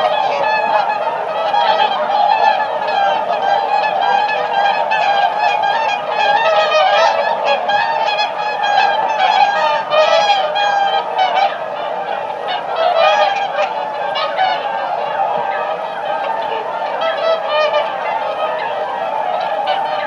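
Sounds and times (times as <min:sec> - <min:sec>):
swans honking: 0:00.0 - 0:20.0.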